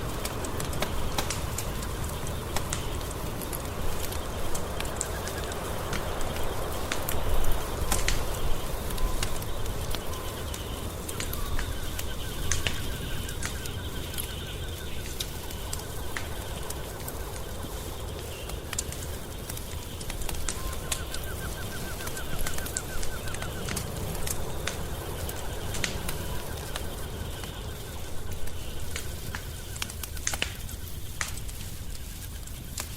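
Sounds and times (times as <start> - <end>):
animal pulsed trill: 0.0 - 32.9
wood fire crackling: 0.0 - 32.9.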